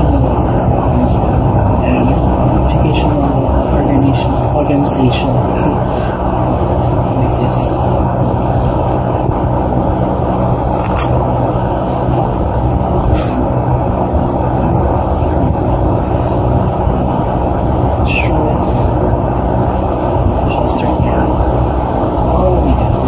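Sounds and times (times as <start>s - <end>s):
steady low droning hum: 0.0s - 23.0s.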